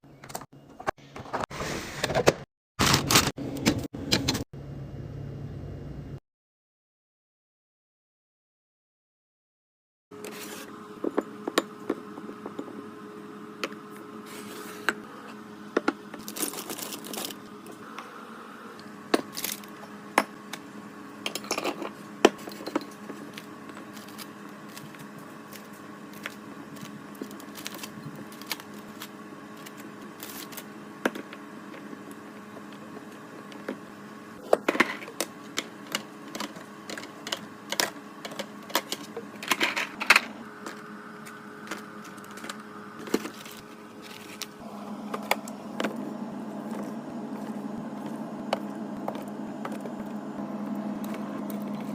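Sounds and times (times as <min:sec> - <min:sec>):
refrigerator hum: 0:00.0 - 0:06.2, 0:10.1 - 0:51.9.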